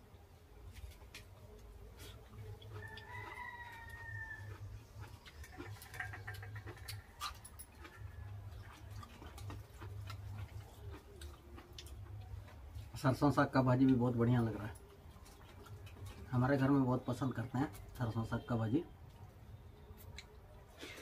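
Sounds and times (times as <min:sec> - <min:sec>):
fingers and food on steel plates: 0:00.0 - 0:21.0
low steady hum: 0:00.0 - 0:21.0
chewing: 0:00.7 - 0:18.0.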